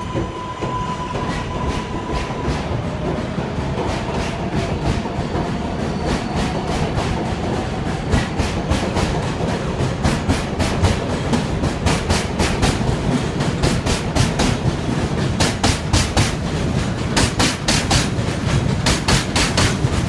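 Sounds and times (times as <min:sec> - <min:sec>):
train rumble: 0:00.0 - 0:20.0
train wheels clacking over rail joints: 0:00.0 - 0:20.0.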